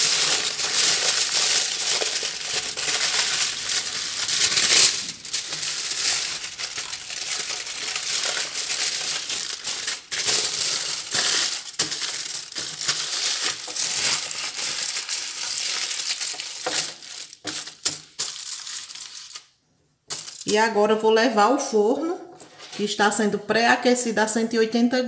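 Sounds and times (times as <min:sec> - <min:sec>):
aluminium foil crinkling: 0:00.0 - 0:20.6.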